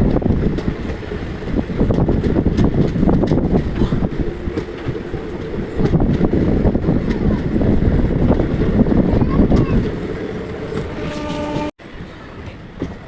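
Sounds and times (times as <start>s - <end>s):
train rumbling: 0.0s - 13.0s
wind buffeting microphone: 0.0s - 13.0s.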